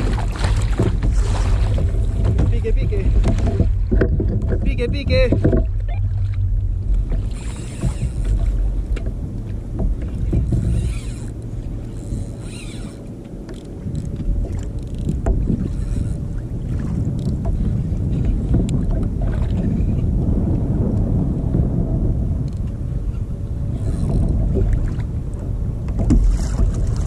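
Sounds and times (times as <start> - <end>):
water lapping against kayak hull: 0.0 - 27.0
wind on microphone: 0.0 - 27.0.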